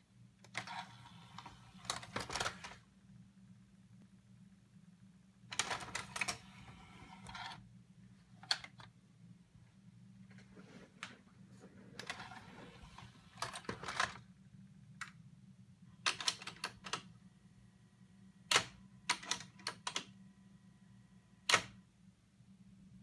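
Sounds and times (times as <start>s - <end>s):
faint steady whine: 0.0s - 16.1s, 16.8s - 23.0s.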